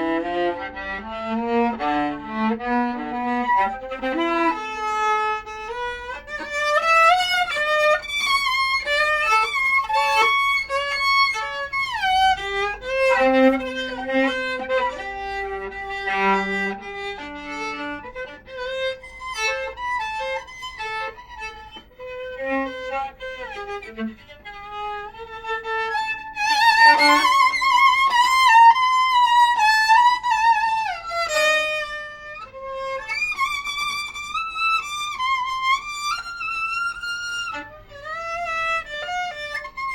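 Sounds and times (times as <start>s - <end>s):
viola bowed melody: 0.0s - 39.9s.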